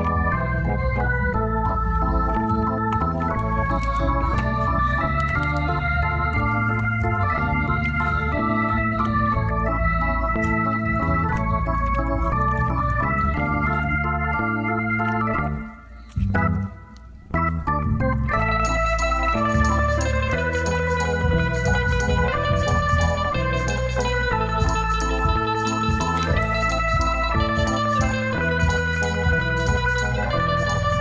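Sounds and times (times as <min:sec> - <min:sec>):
keyboard melody over bass chords: 0:00.0 - 0:31.0.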